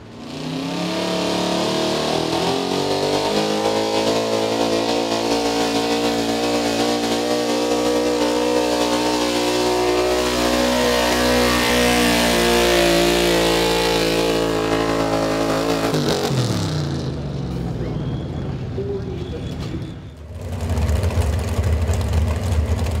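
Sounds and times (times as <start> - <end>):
pickup engine at full throttle: 0.0 - 18.1, 20.3 - 23.0.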